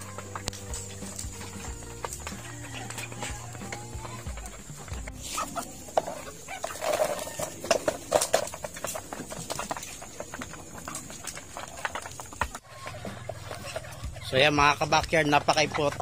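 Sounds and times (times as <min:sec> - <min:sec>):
chickens clucking: 0:00.0 - 0:16.0
chickens pecking: 0:00.0 - 0:16.0.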